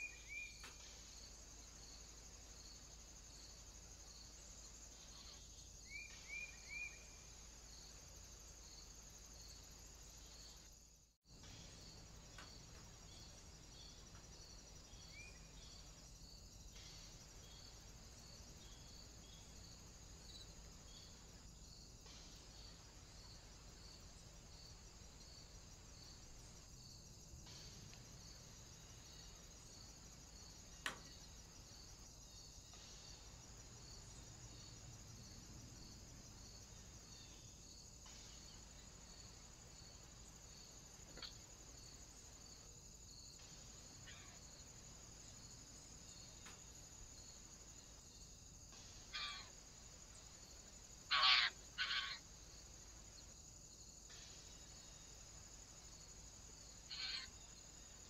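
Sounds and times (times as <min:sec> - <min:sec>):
insects stridulating: 0:00.0 - 0:58.0.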